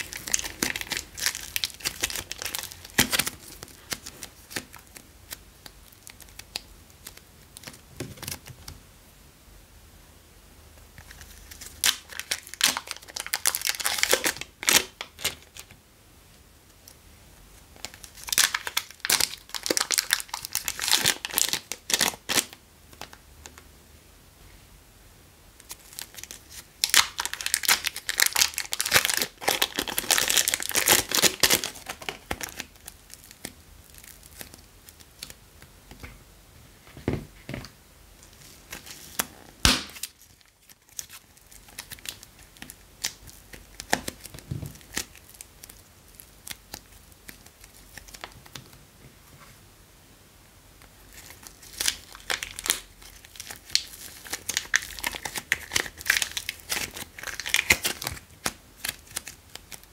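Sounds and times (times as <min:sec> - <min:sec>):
plastic wrappers crinkling: 0:00.0 - 0:08.5, 0:11.0 - 0:15.7, 0:17.8 - 0:23.2, 0:25.6 - 0:35.4, 0:38.2 - 0:48.8, 0:50.9 - 0:59.9.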